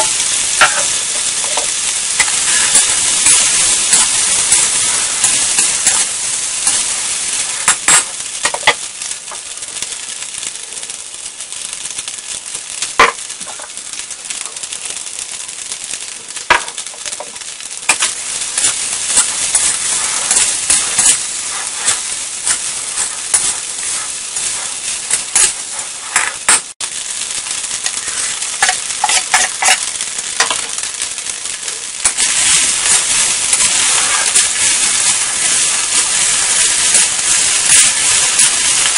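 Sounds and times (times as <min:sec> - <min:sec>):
spatula scraping and clanking wok: 0:00.0 - 0:10.3, 0:16.0 - 0:38.9
rice sizzling in a wok: 0:00.0 - 0:38.9.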